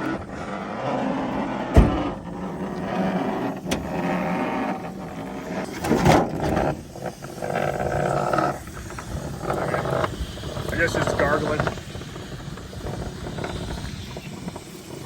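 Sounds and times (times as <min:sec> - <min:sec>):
engine gargling unevenly: 0:00.0 - 0:14.6.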